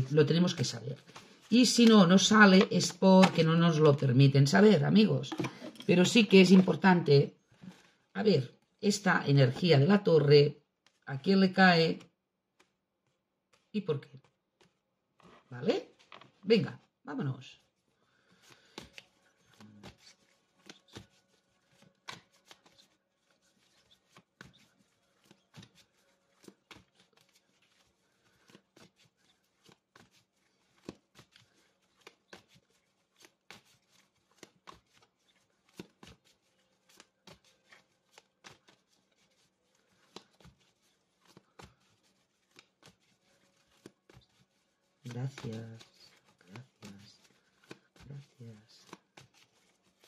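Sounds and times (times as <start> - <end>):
cards being shuffled: 0.0 - 6.9, 10.8 - 11.0, 11.8 - 16.9, 18.1 - 50.0.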